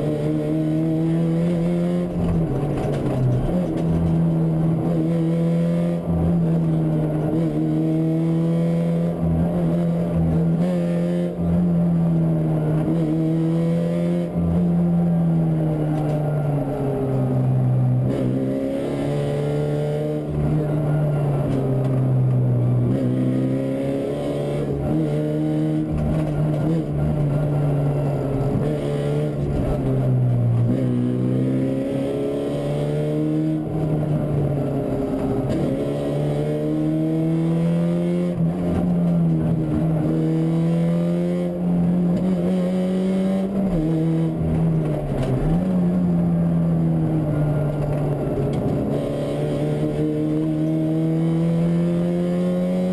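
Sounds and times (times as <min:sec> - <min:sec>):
rally car engine revving: 0:00.0 - 0:52.9.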